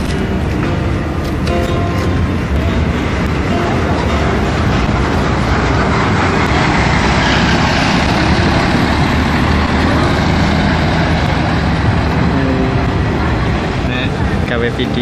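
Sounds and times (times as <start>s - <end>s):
bus diesel engines passing: 0.0s - 15.0s.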